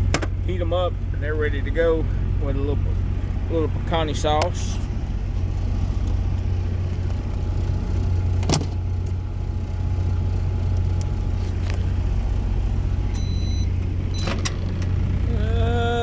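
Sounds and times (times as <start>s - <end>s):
truck engine running: 0.0s - 16.0s
microwave humming: 2.2s - 16.0s.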